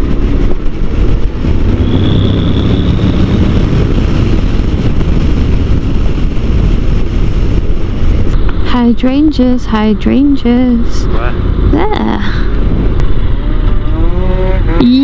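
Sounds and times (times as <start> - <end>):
motorcycle engine hum: 0.0 - 15.0
wind and road rush: 0.0 - 15.0.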